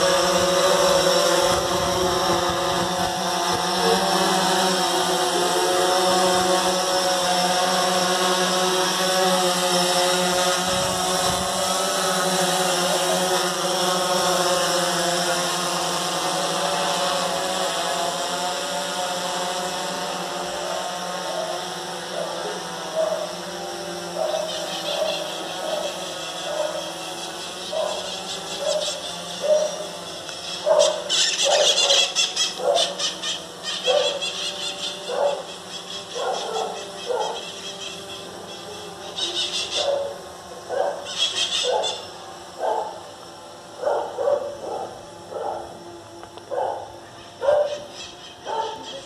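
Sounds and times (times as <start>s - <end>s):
drone propellers humming: 0.0s - 49.0s.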